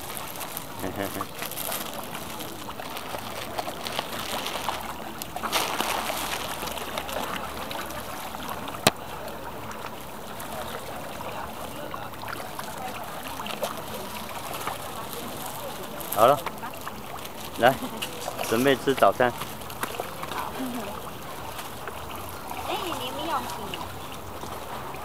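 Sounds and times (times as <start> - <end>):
river water splashing on embankment: 0.0 - 25.0.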